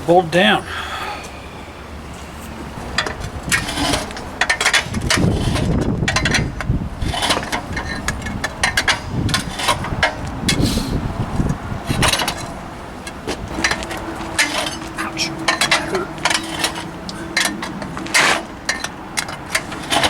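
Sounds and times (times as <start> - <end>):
heavy low rumbles: 0.0 - 16.3
metal scraping and clanking: 2.0 - 10.9, 11.9 - 20.0.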